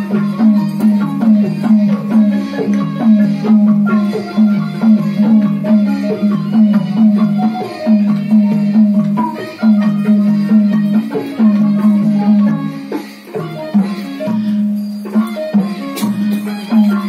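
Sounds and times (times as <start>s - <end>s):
tuned drums and percussion music: 0.0s - 17.0s.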